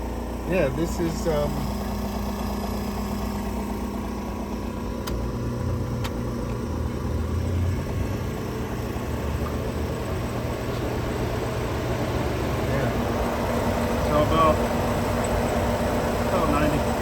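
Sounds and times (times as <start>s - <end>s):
heat pump humming: 0.0s - 17.0s.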